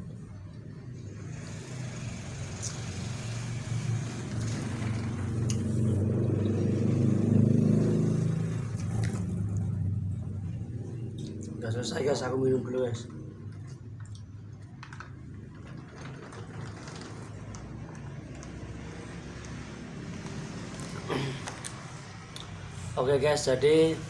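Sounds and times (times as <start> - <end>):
vehicle engine hum passing by: 0.0 - 24.0.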